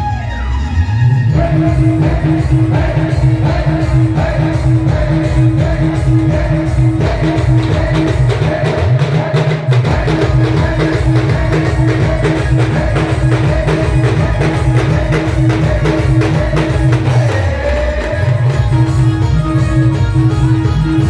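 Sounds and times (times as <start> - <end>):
procession band music: 0.0 - 21.0
fast drum beat: 1.4 - 21.0.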